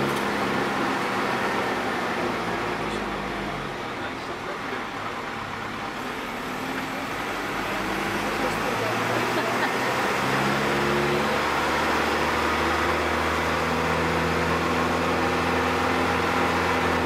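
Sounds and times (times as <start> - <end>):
tyres on gravel road: 0.0 - 17.0
vehicle engine hum: 0.0 - 17.0.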